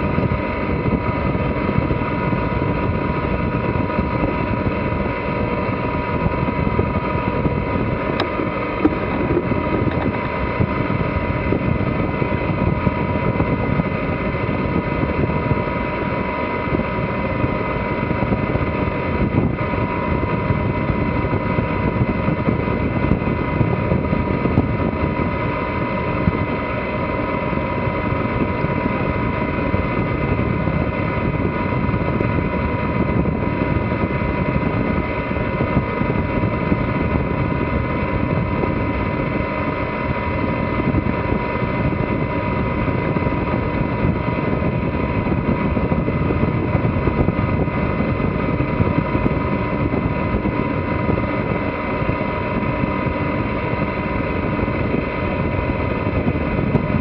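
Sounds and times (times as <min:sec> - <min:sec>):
boat diesel engine droning: 0:00.0 - 0:57.0
wind: 0:00.0 - 0:57.0.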